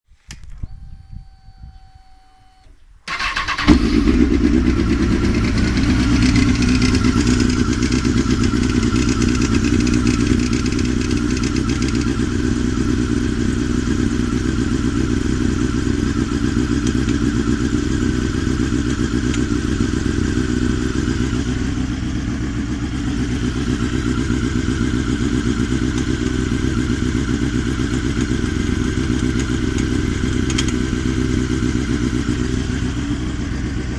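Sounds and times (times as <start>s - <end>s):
motorcycle engine starting and idling: 0.3s - 33.9s.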